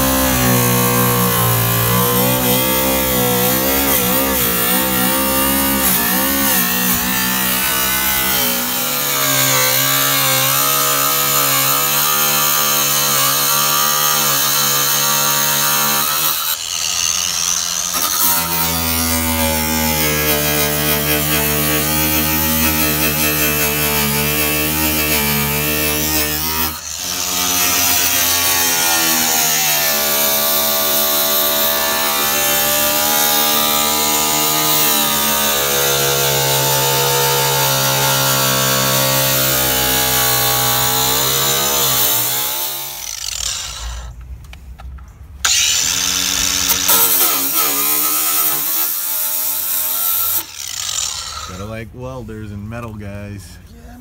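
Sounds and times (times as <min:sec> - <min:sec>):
angle grinder cutting sheet metal: 0:00.0 - 0:44.2, 0:45.4 - 0:51.8.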